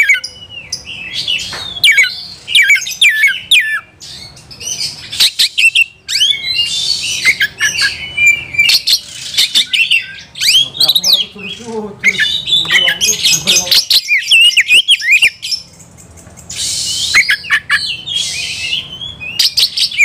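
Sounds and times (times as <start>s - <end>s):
magpie-robin singing: 0.0s - 20.0s.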